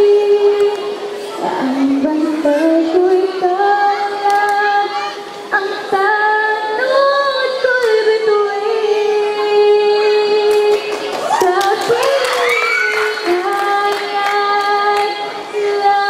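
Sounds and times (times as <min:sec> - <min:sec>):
girl singing into a microphone: 0:00.0 - 0:16.0.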